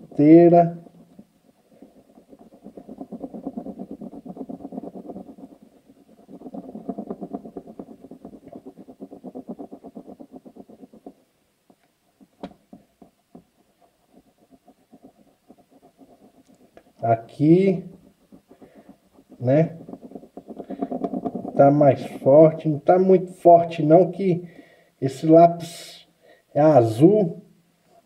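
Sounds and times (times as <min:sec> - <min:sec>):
pencil scratching on paper: 0:00.0 - 0:25.7.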